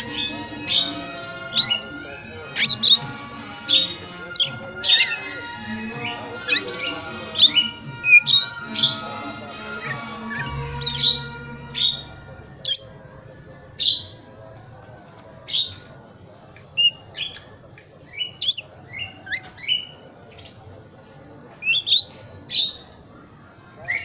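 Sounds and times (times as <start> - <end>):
bird chirping: 0.0 - 14.7, 15.4 - 16.0, 16.6 - 20.8, 21.5 - 23.1.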